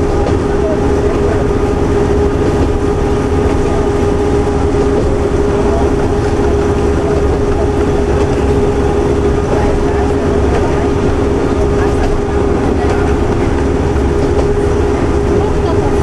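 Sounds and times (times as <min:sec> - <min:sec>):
diesel railcar engine drone: 0:00.0 - 0:16.0
low rumble: 0:00.0 - 0:16.0.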